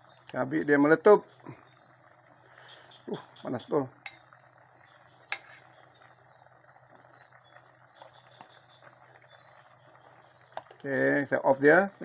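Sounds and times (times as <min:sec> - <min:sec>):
gas burner hiss: 0:00.7 - 0:11.9.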